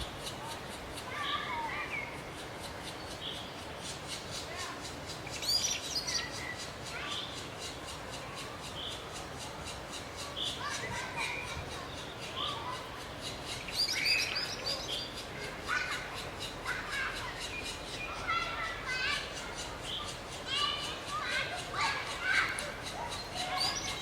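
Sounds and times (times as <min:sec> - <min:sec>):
birds chattering calls: 0:00.0 - 0:24.0
birds chirping: 0:00.0 - 0:24.0.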